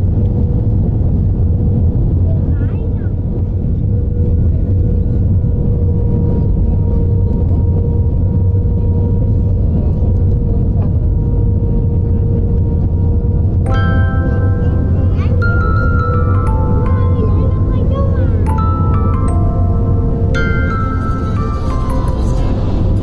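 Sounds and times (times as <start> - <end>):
droning hum: 0.0 - 23.0
vehicle engine rumble: 0.0 - 23.0.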